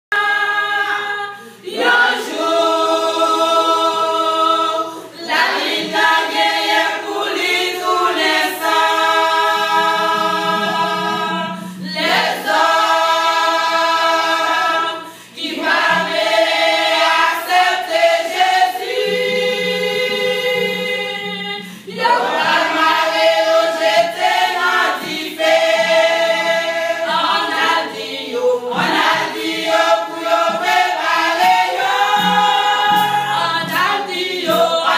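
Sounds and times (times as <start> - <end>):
women's choir singing in harmony: 0.1 - 34.9.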